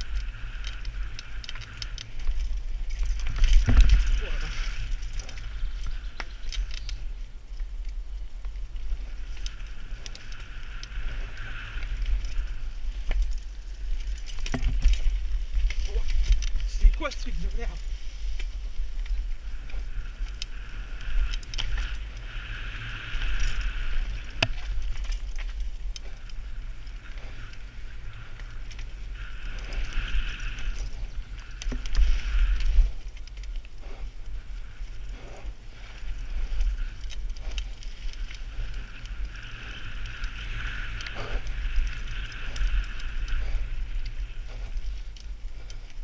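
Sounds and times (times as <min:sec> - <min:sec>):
bike rattling over bumps: 0:00.0 - 0:46.0
tyres on dirt trail: 0:00.0 - 0:46.0
wind rumble on microphone: 0:00.0 - 0:46.0.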